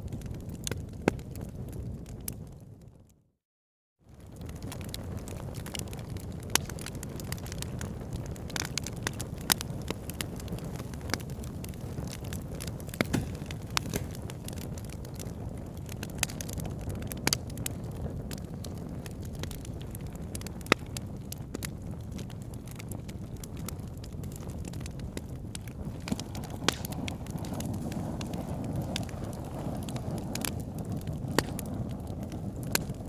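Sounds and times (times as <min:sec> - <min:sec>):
wood fire crackling and popping: 0:00.0 - 0:02.7, 0:04.1 - 0:33.0
fire flames rumbling: 0:00.0 - 0:03.1, 0:04.1 - 0:33.0.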